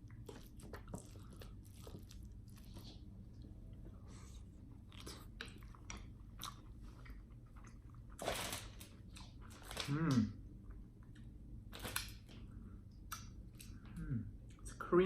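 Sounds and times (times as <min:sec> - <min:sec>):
person chewing: 0:00.0 - 0:14.6.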